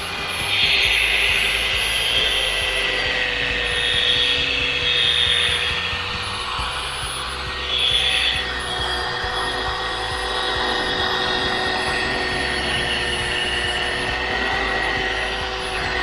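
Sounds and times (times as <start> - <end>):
polishing buffer motor whine: 0.0 - 16.0.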